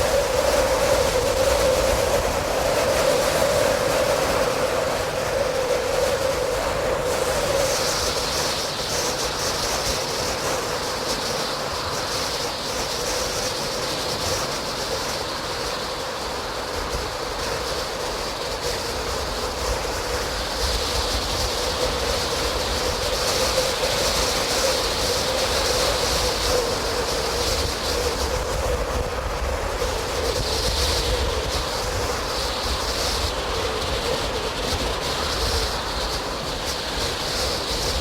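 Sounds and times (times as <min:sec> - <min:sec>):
hiss: 0:00.0 - 0:38.0.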